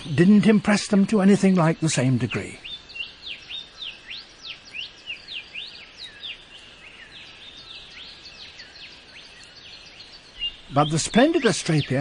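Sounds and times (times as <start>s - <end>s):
birds whistling: 1.5s - 12.0s.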